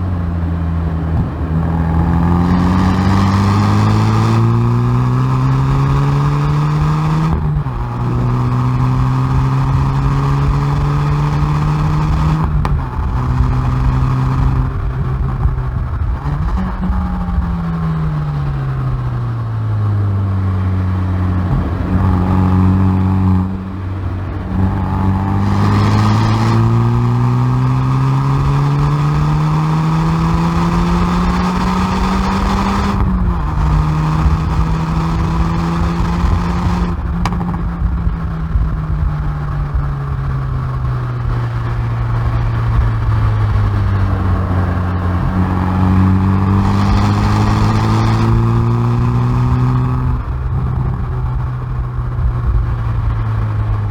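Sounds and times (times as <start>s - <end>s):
car exhaust revving: 0.0s - 53.9s.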